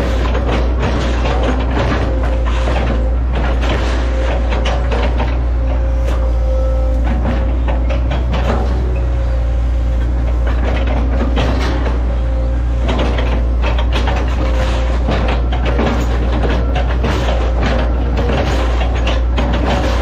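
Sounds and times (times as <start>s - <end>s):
crackling and clatter: 0.0s - 6.2s, 10.0s - 20.0s
excavator diesel engine droning: 0.0s - 20.0s.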